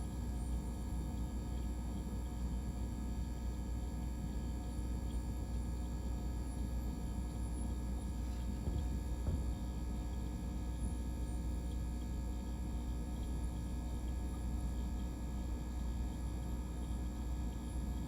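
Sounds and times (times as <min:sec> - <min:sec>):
refrigerator humming: 0:00.0 - 0:18.0.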